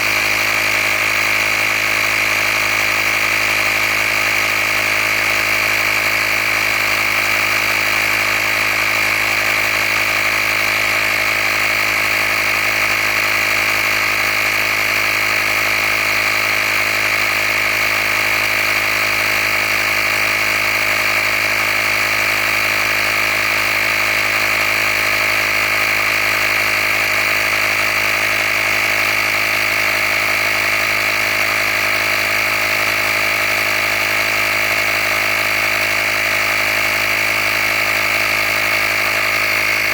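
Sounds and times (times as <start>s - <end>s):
air compressor whining: 0.0s - 39.9s.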